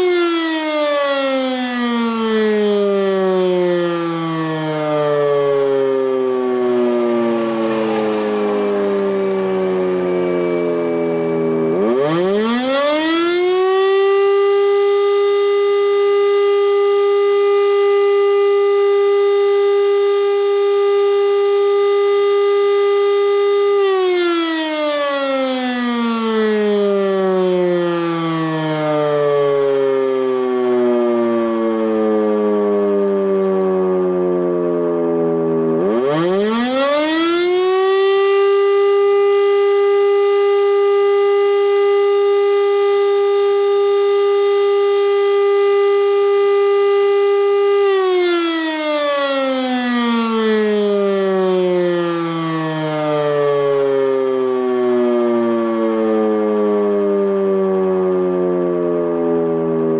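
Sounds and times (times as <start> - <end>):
electric siren wailing: 0.0 - 59.9.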